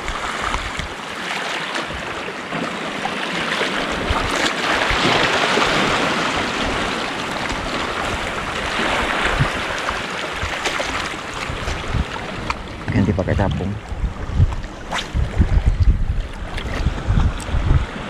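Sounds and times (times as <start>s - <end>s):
waves breaking over rocks: 0.0s - 18.0s.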